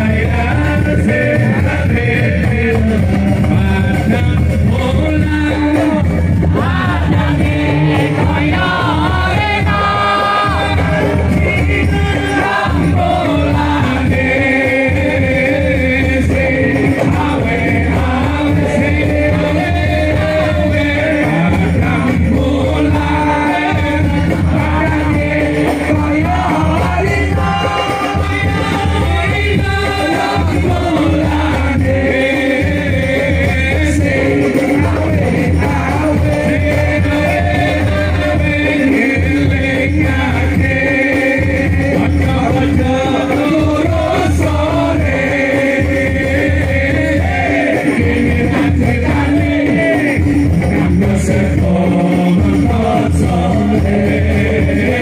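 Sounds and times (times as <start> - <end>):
man singing devotional song: 0.0 - 55.0
musical accompaniment: 0.0 - 55.0.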